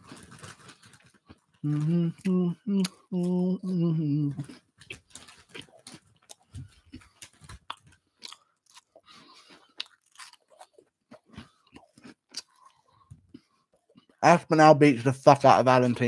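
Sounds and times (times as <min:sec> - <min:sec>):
man chewing crunchy snacks: 0:00.0 - 0:14.2.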